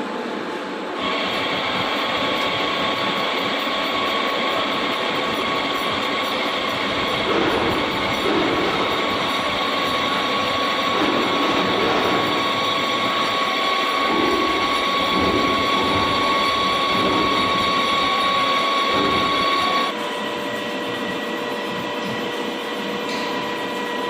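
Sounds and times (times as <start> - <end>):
lathe running with high whine: 1.0 - 24.0.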